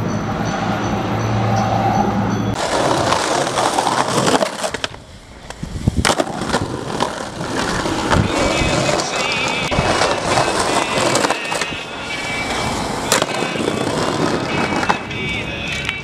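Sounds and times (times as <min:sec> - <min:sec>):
skateboard clacks: 0:02.5 - 0:16.0
skateboard wheels rolling on bricks: 0:02.5 - 0:16.0.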